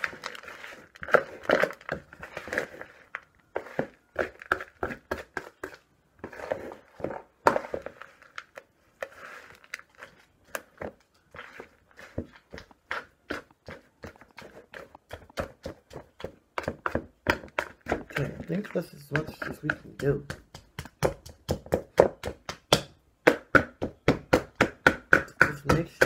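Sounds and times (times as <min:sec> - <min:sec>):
hands squishing raw meat: 0:00.0 - 0:22.8.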